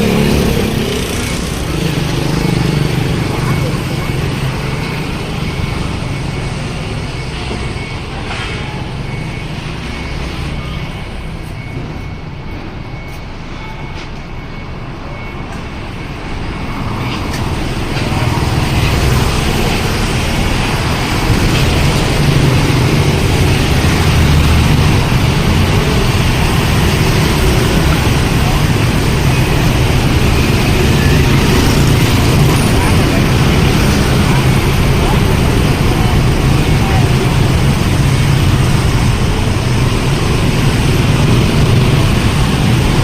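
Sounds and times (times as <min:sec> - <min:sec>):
faint repeating beep: 0:00.0 - 0:38.9
large truck engine running: 0:00.0 - 0:43.0
street traffic: 0:00.0 - 0:43.0.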